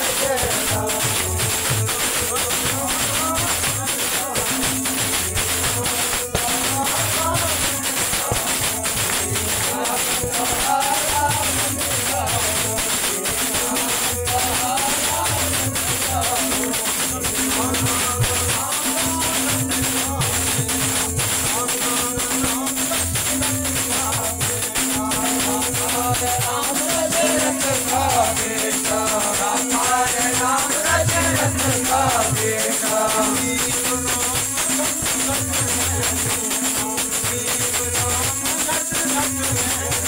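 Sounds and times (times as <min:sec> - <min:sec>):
devotional singing: 0:00.0 - 0:40.0
drum beating: 0:00.0 - 0:40.0
jingling percussion: 0:00.0 - 0:40.0.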